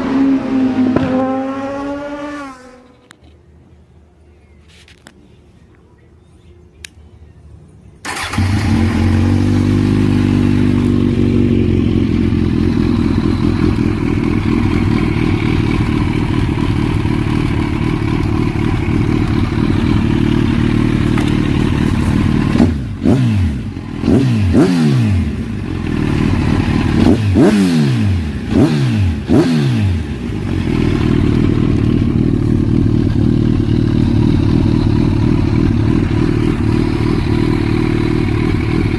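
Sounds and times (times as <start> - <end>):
motorcycle engine idling and revving: 0.0 - 3.4, 8.0 - 38.9.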